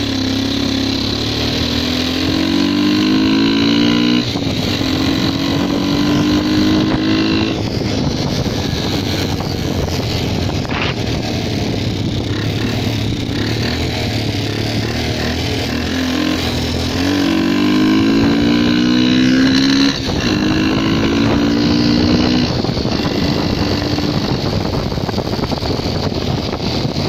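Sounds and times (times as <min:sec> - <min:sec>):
moped engine running: 0:00.0 - 0:27.0
even rushing noise: 0:01.0 - 0:27.0.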